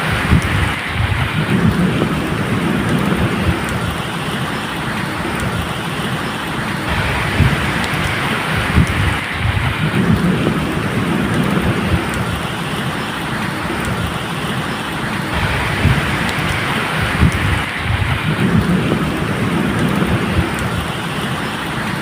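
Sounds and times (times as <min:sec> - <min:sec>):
low rolling thunder: 0:00.0 - 0:04.4, 0:06.8 - 0:14.5, 0:15.1 - 0:21.3
steady rain falling: 0:00.0 - 0:22.0.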